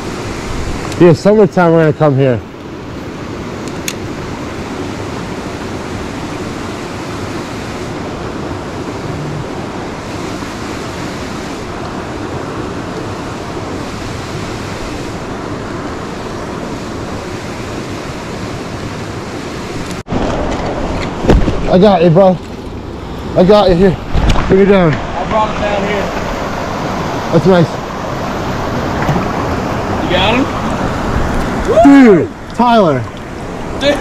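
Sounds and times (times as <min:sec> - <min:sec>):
creek water rushing over rocks: 0:00.0 - 0:34.0.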